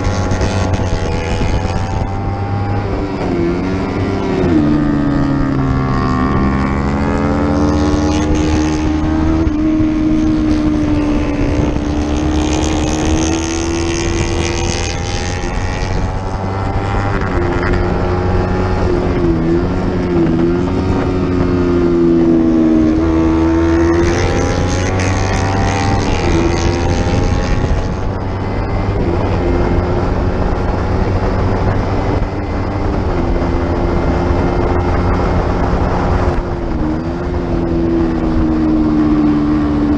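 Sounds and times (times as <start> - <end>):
racing motorcycle engine: 0.0 - 39.9
wind on microphone: 0.0 - 39.9.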